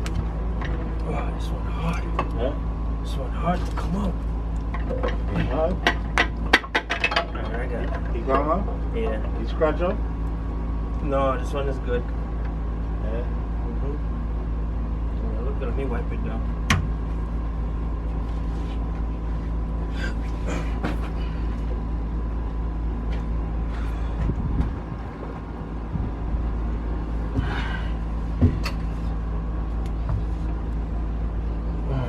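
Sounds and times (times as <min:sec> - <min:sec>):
engine parts clicking and knocking: 0:00.0 - 0:12.6, 0:15.5 - 0:32.0
low mechanical hum: 0:00.0 - 0:32.0.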